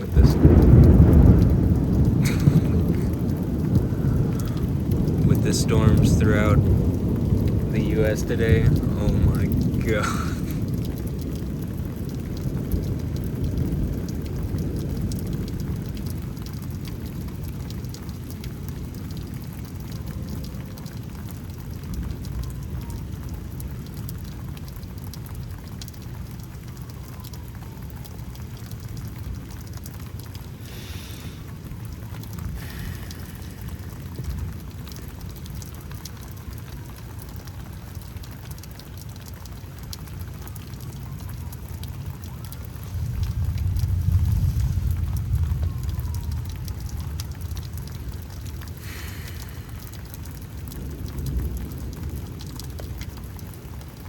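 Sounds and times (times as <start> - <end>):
low thunder rumble: 0.0 - 54.0
steady rain: 0.0 - 54.0.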